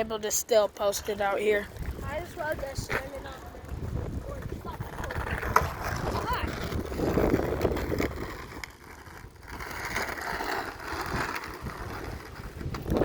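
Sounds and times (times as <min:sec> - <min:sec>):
wind buffeting microphone: 0:00.9 - 0:13.0.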